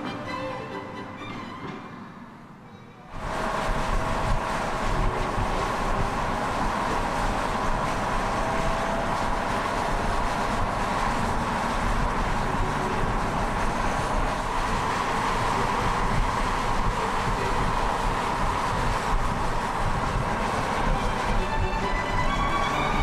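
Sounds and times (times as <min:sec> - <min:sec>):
car engine and road noise: 0:02.1 - 0:23.0.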